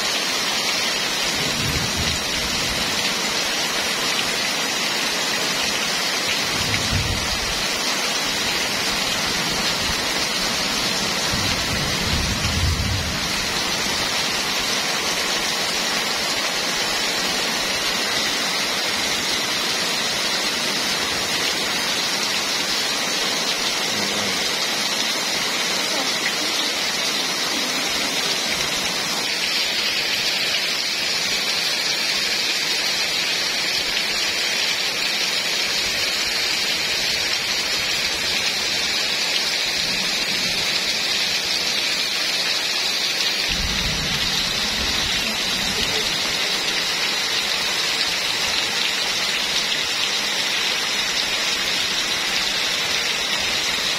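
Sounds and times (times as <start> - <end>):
heavy rain hissing: 0.0 - 53.9.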